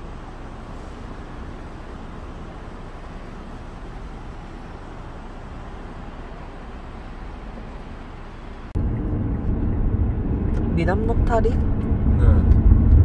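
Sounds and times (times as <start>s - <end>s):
road traffic hiss and rumble: 0.0s - 13.0s.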